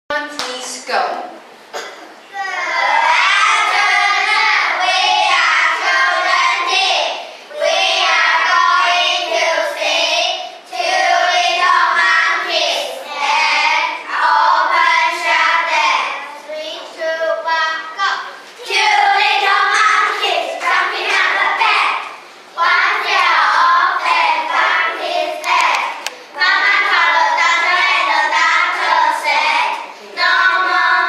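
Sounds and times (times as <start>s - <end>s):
children singing together: 1.8s - 31.0s.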